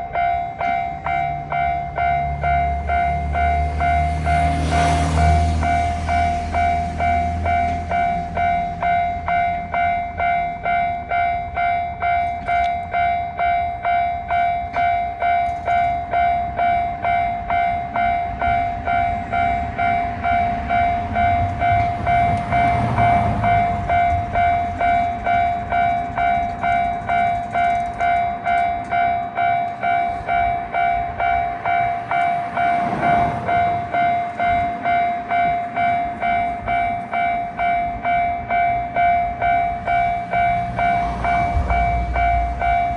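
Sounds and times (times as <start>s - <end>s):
level-crossing warning bell: 0.0s - 42.9s
train rumbling past: 0.0s - 42.9s.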